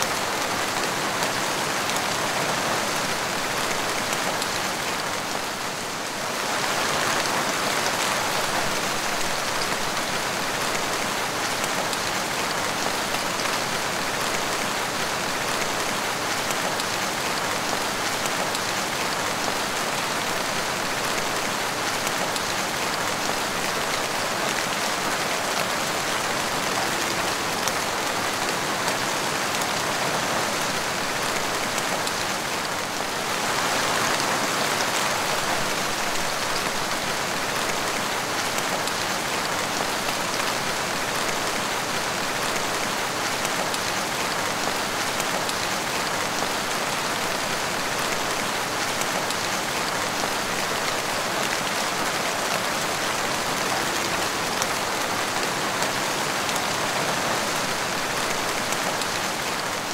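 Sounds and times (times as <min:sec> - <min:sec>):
rain on a tiled patio: 0:00.0 - 0:59.9.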